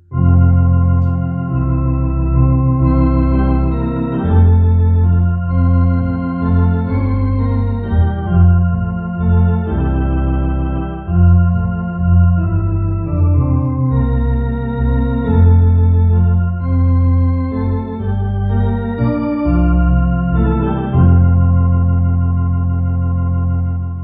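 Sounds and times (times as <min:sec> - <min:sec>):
electronic organ playing hymn: 0:00.0 - 0:24.0.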